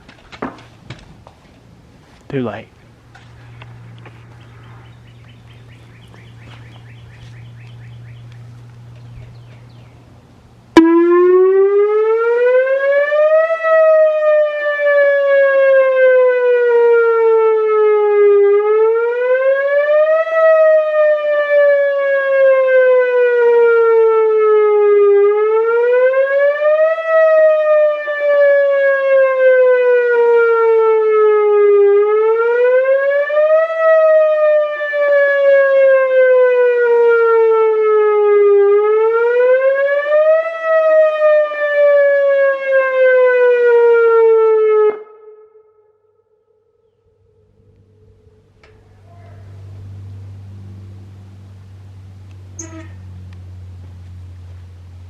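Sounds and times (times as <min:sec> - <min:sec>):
outdoor warning siren wailing: 0:03.0 - 0:55.0.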